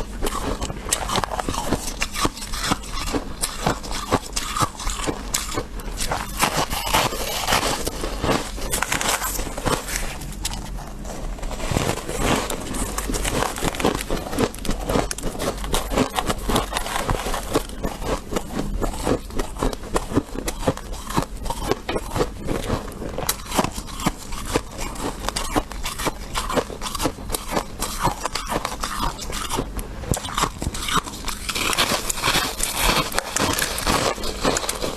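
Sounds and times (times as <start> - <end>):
crunchy chewing of frost: 0.0 - 34.9.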